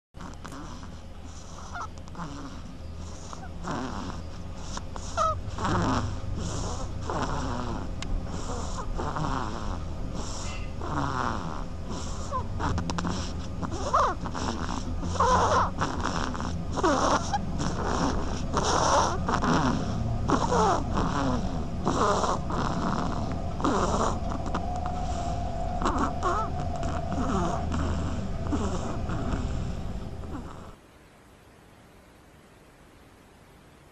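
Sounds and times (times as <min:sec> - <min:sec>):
duckling snoring: 0:00.2 - 0:30.8.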